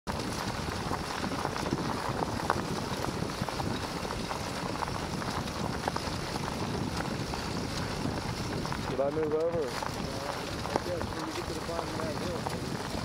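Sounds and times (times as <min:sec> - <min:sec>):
rustling with small crackles: 0:00.1 - 0:13.0.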